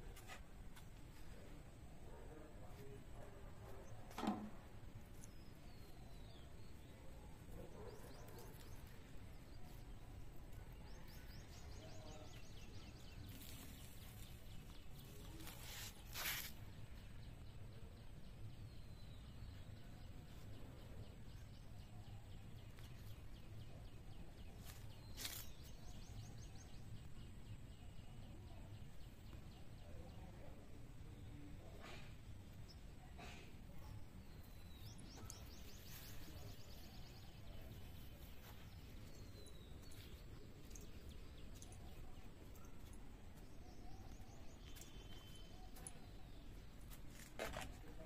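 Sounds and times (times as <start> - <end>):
distant birds chirping: 0.0 - 48.0.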